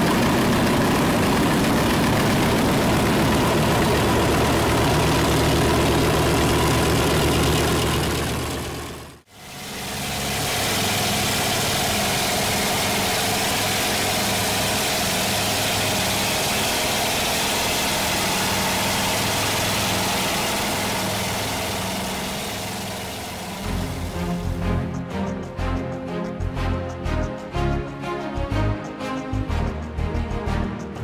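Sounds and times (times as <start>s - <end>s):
aircraft engines drone: 0.0s - 31.0s.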